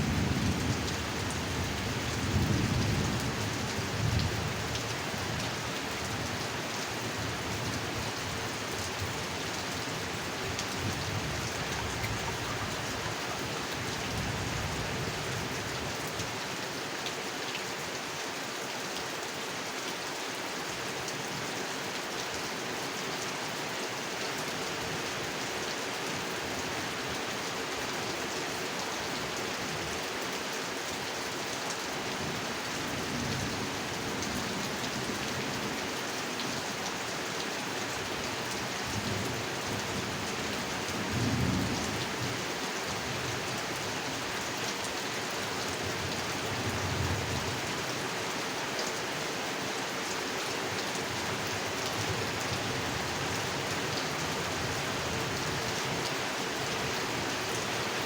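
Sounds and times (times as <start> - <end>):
rain falling on a pond: 0.0 - 58.0.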